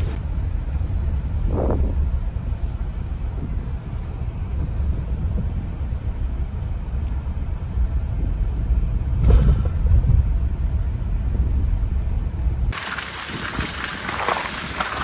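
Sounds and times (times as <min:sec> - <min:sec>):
car tyres rumbling on dirt road: 0:00.0 - 0:15.0.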